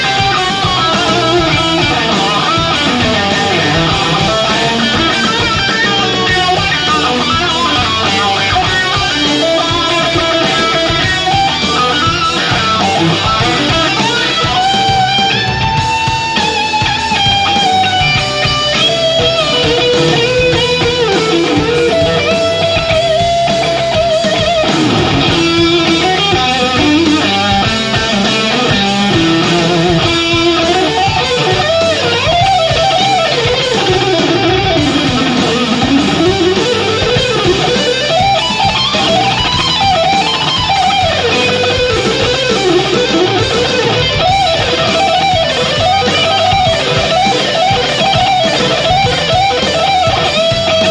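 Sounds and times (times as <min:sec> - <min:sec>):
electric guitar lead: 0:00.0 - 0:50.9
rock band backing: 0:00.0 - 0:50.9.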